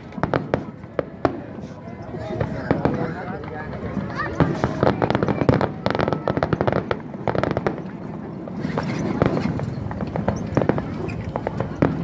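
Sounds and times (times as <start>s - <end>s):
fireworks crackling pops: 0.0s - 12.0s.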